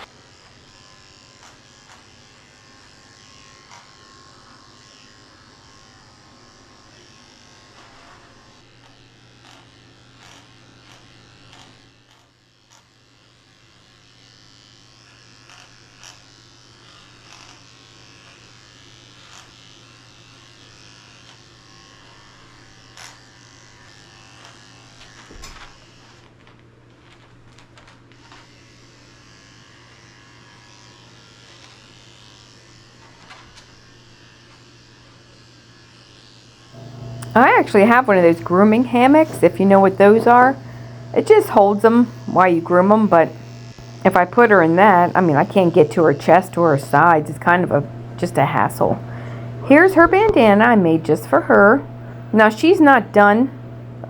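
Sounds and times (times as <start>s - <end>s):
electric clippers humming: 0.0s - 54.0s.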